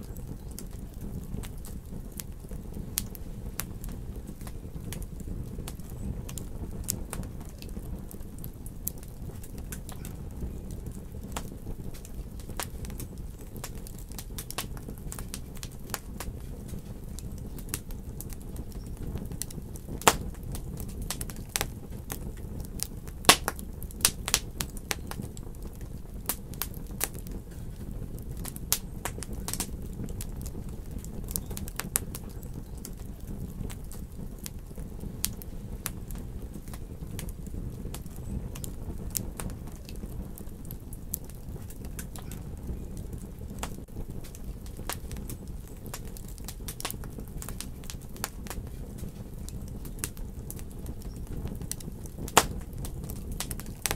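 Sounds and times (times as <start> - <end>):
fire popping: 0.0 - 53.9
wood fire crackling: 0.0 - 53.9.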